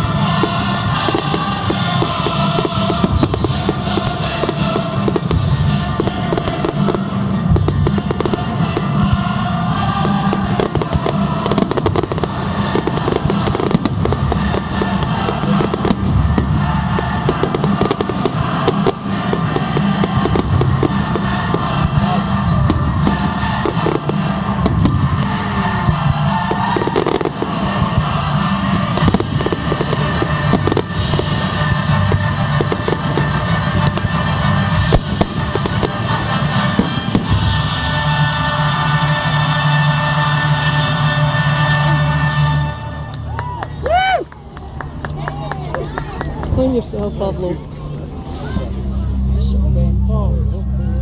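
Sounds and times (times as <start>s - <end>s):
loud music over loudspeakers: 0.0s - 43.1s
fireworks bangs and crackling: 0.0s - 47.4s.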